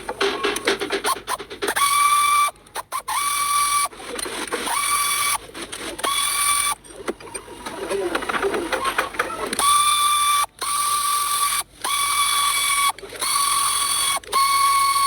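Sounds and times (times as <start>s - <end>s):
power tool motor whining: 1.0s - 6.8s, 8.7s - 15.0s.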